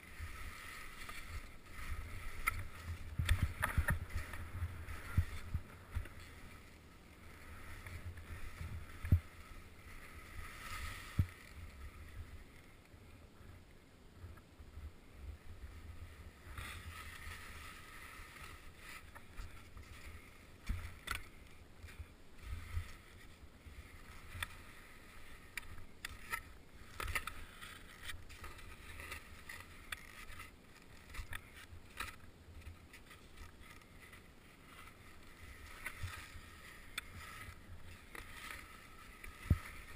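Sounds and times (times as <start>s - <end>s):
skis hissing and scraping on snow: 0.0s - 12.7s, 15.6s - 39.9s.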